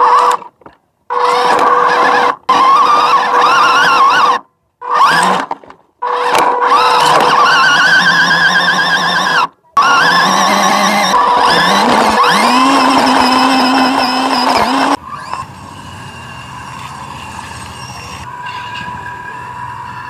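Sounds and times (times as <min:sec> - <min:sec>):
rc truck motors: 0:00.0 - 0:20.0.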